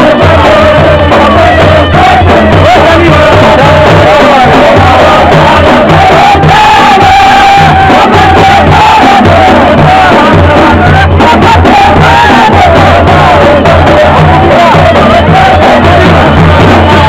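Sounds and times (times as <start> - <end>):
dhol drumming: 0.0 - 17.0.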